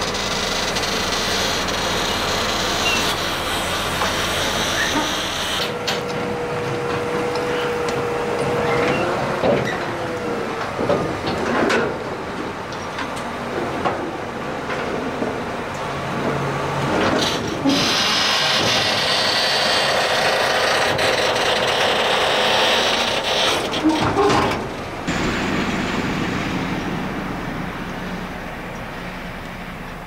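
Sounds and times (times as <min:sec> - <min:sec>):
tractor engine running: 0:00.0 - 0:30.0
trailers rattling and clattering: 0:00.0 - 0:30.0.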